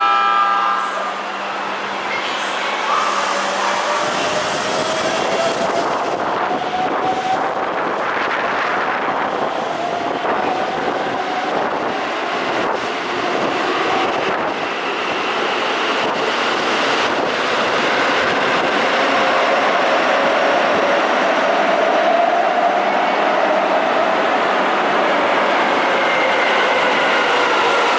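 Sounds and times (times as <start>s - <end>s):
electric train rumbling: 0.0s - 27.9s.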